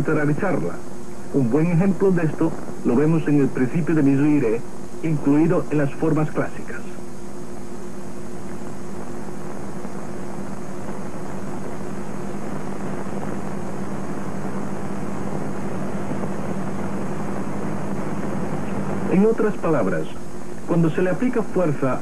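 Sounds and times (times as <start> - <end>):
low electrical hum: 0.0 - 22.0
steady hiss: 0.0 - 22.0.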